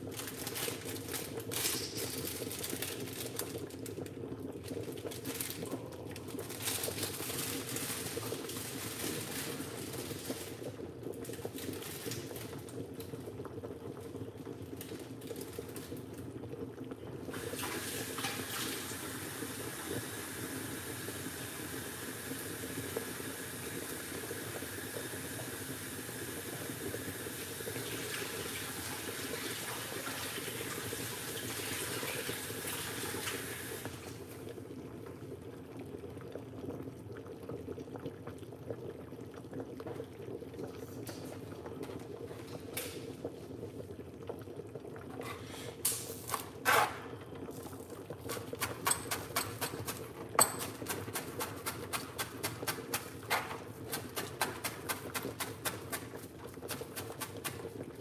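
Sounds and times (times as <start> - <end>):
soup bubbling in a pot: 0.0 - 58.0.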